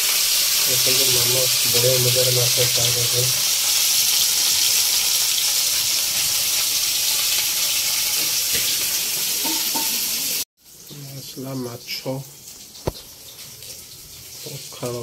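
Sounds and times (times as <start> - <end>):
fish sizzling in hot oil: 0.0 - 11.2, 11.9 - 15.0.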